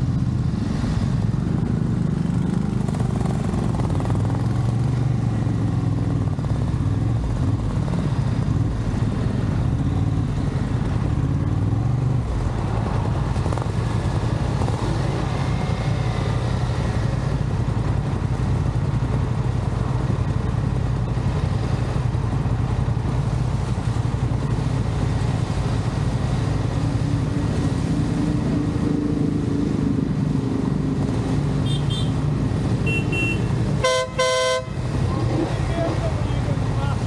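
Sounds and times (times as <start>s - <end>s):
rush of riding noise: 0.0s - 37.0s.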